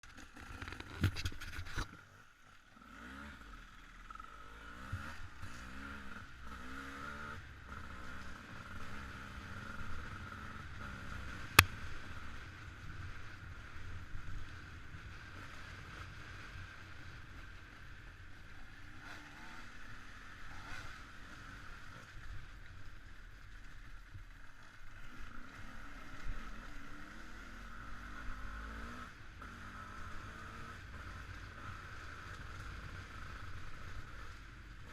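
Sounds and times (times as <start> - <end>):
motorcycle engine revving: 2.7 - 22.6, 23.4 - 34.9.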